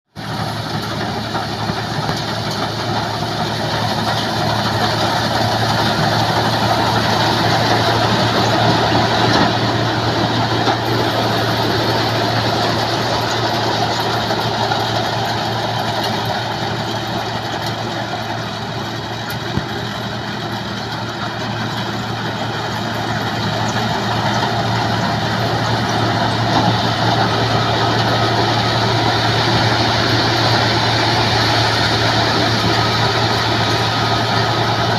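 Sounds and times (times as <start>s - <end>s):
combine harvester running: 0.1s - 34.9s.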